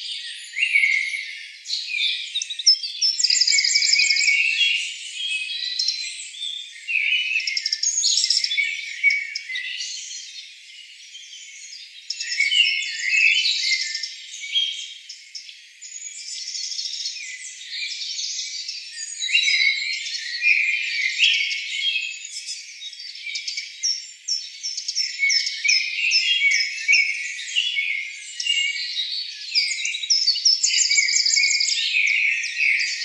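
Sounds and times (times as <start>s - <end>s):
forest birds chirping and whistling: 0.0s - 33.0s.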